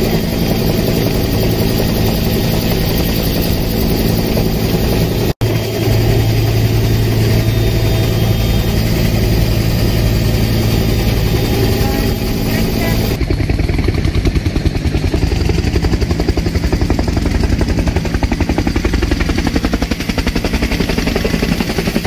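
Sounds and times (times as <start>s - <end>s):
low hum: 0.0s - 20.2s
helicopter engine and rotor noise: 0.0s - 22.0s.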